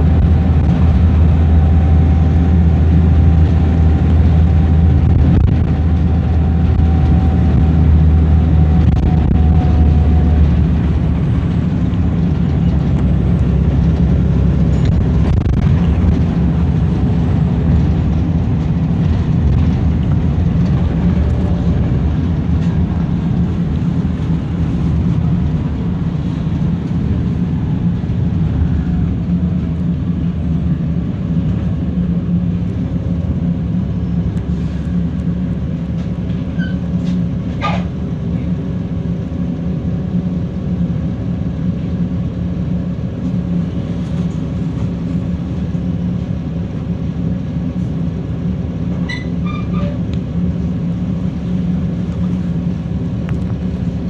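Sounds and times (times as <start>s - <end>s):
bus engine drone: 0.0s - 54.0s
road rumble: 0.0s - 54.0s.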